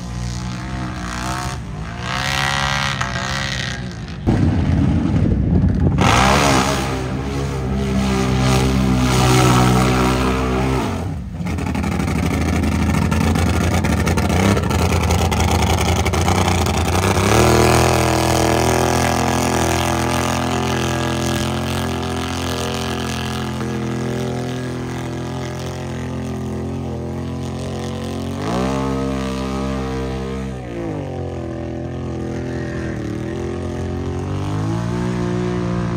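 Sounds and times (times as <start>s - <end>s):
racing engine at high revs: 0.0s - 5.3s, 5.9s - 35.9s.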